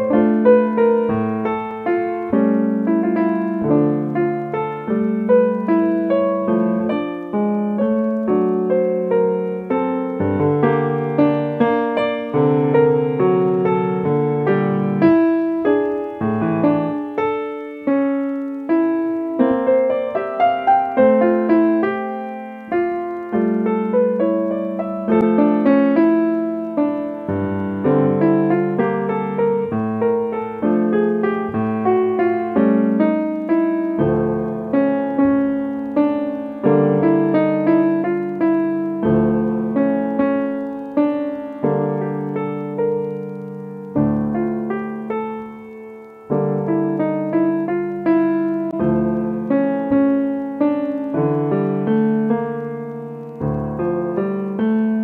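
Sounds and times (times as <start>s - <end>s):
calm solo piano piece: 0.0s - 55.0s.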